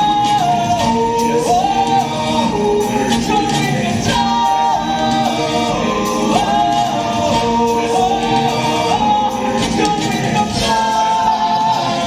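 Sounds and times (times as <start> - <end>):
backing music: 0.0 - 12.0
singers holding long notes: 0.0 - 12.0.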